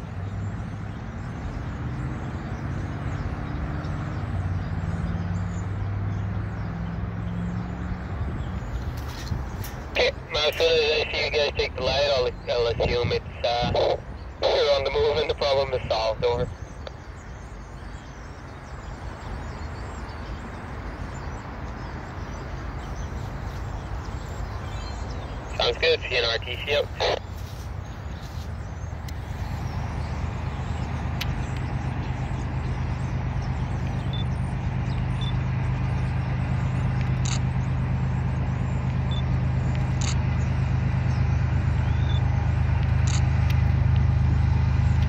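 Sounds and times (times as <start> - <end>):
locomotive engines droning: 0.0 - 45.0
outdoor rumble and hiss: 0.0 - 45.0.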